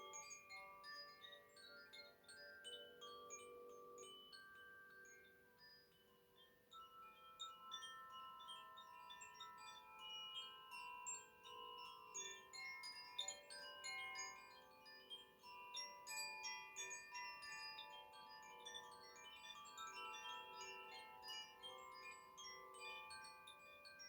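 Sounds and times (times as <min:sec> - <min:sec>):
wind chimes ringing faintly: 0:00.0 - 0:24.0.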